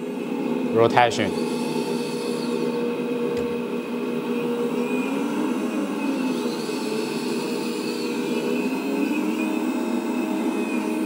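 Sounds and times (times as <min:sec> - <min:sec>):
hydraulic pump whine: 0:00.0 - 0:11.0.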